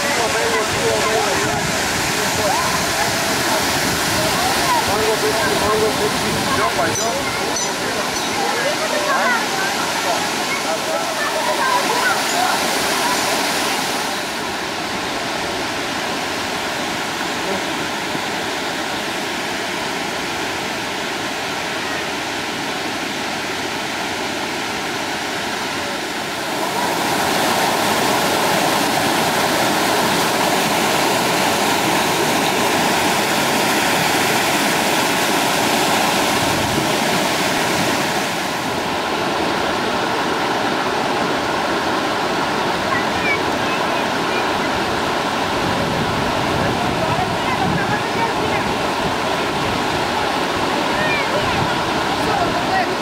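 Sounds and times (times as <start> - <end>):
water rushing over rocks: 0.0 - 53.0.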